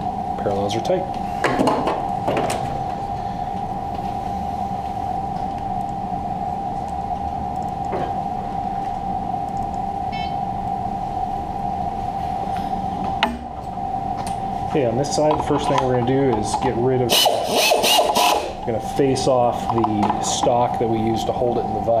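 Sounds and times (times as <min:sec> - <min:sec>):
high-pitched electrical whine: 0:00.0 - 0:22.0.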